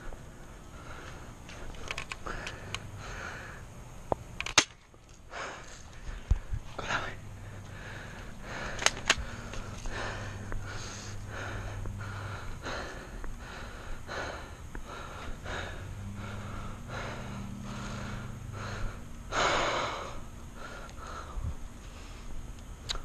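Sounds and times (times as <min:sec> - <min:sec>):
person breathing heavily: 0:00.0 - 0:03.9, 0:05.2 - 0:23.0.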